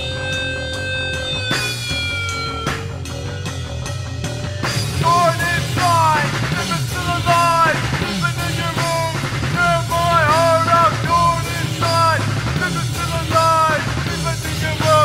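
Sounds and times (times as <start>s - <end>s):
bass line: 0.0s - 15.0s
drum kit: 0.0s - 15.0s
rock band playing: 0.0s - 15.0s
sliding melody line: 0.0s - 15.0s.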